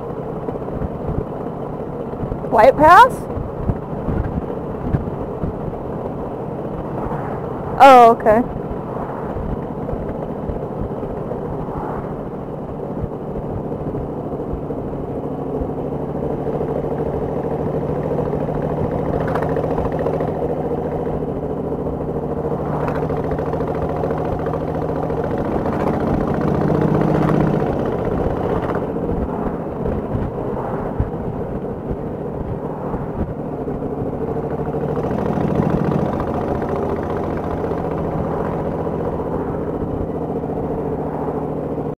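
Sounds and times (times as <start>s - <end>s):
wind rumbling on microphone: 0.0s - 16.1s, 17.0s - 41.9s
motorcycle engine running: 0.0s - 41.9s.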